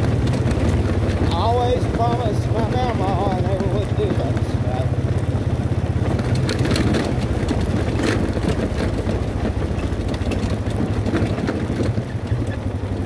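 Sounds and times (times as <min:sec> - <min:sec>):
atv engine running: 0:00.0 - 0:13.0
clicks and knocks from rough ground: 0:00.0 - 0:13.0.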